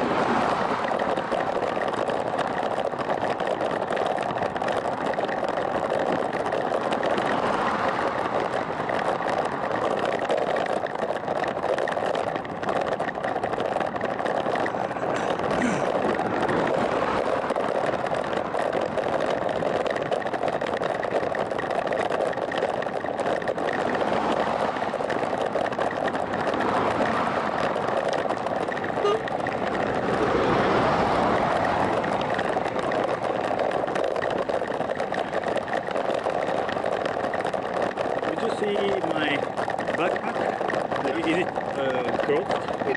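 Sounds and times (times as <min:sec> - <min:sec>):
bicycle tyre noise: 0:00.0 - 0:42.9
rushing wind on microphone: 0:00.0 - 0:42.9.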